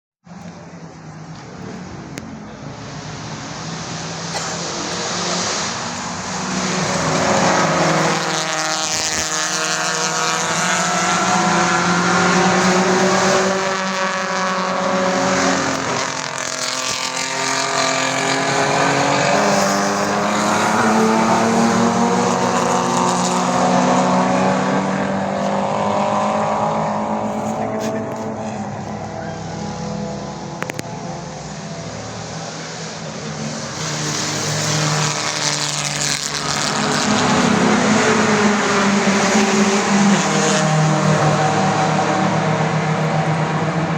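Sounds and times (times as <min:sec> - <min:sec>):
race car engines at high revs: 0:00.4 - 0:43.9.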